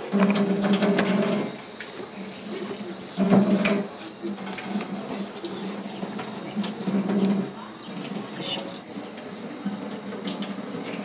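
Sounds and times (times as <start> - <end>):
water running from tap into sink: 0.0 - 11.0.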